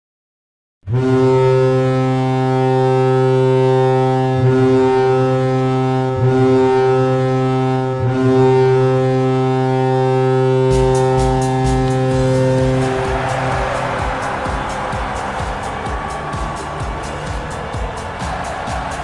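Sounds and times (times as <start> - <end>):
deep goal horn blast: 0.9 - 19.0.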